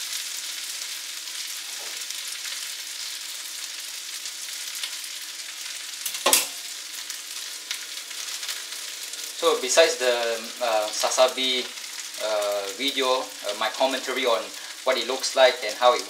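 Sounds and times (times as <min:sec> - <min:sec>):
noodles sizzling in a wok: 0:00.0 - 0:16.0.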